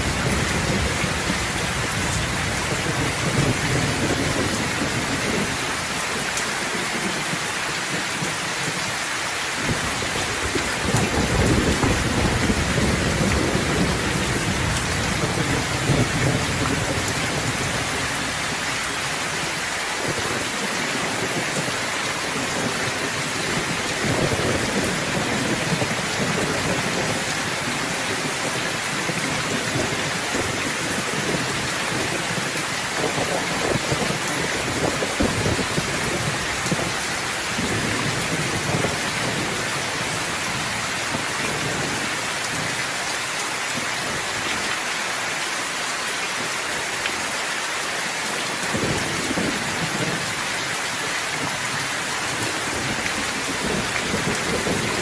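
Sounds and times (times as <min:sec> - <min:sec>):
thunder rumbling: 0:00.0 - 0:08.9, 0:09.6 - 0:42.8, 0:51.4 - 0:55.0
heavy rain hissing: 0:00.0 - 0:55.0.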